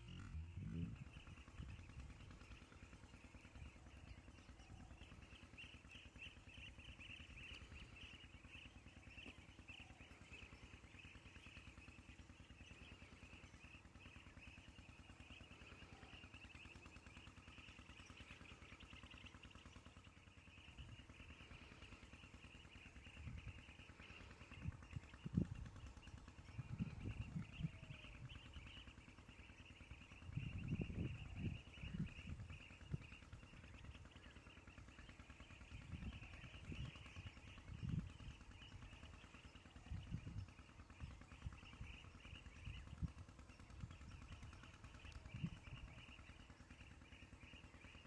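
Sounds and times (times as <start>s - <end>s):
high-pitched insect or bird chorus: 0.0s - 48.0s
low pulsing hum: 0.0s - 48.0s.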